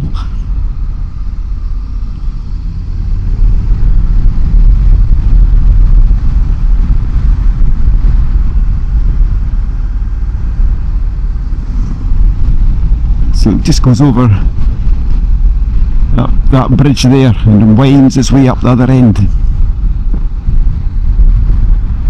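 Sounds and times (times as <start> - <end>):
motorcycle engine rumble: 0.0 - 22.0
wind on microphone: 0.0 - 22.0.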